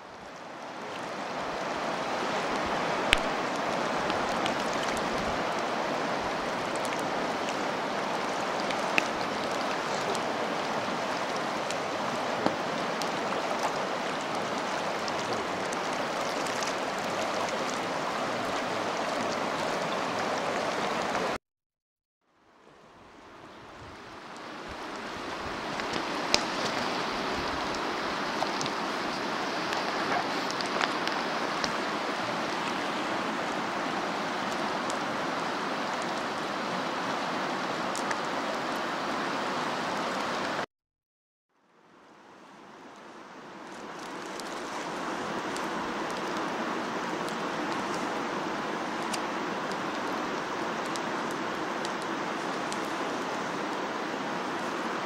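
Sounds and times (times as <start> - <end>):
river rushing over gravel: 0.0 - 21.4, 23.3 - 40.6, 42.5 - 55.0.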